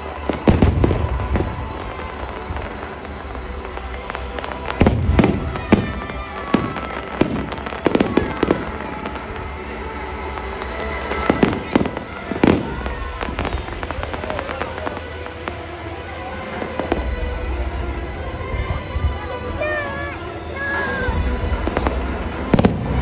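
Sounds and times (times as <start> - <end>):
background music: 0.0 - 23.0
fireworks bangs and crackles: 0.0 - 23.0
voices: 0.0 - 23.0.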